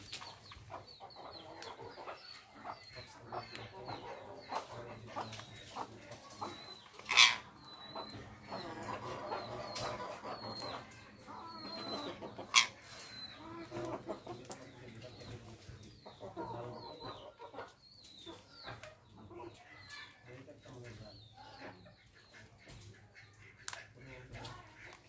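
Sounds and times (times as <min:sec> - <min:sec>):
parakeets chattering: 0:00.4 - 0:25.0.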